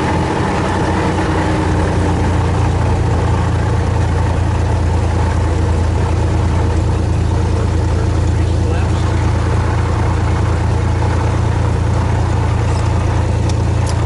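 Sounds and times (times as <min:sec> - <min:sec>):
aircraft engine and propeller drone: 0:00.0 - 0:14.0.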